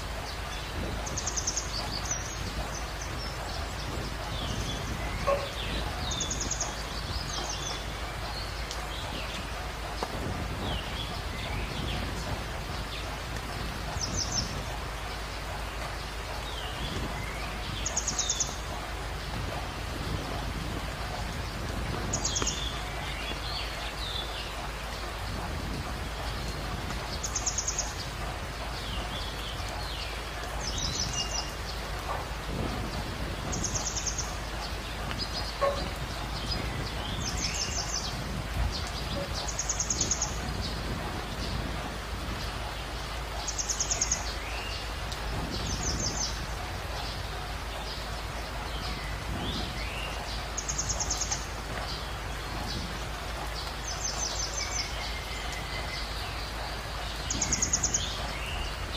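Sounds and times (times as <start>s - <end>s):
outdoor hiss: 0.0s - 58.9s.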